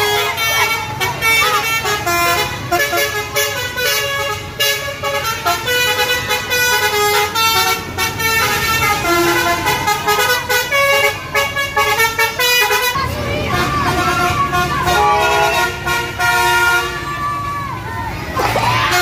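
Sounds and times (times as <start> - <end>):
musical bus horn melody: 0.0 - 17.5, 18.6 - 19.0
low engine rumble: 0.0 - 19.0.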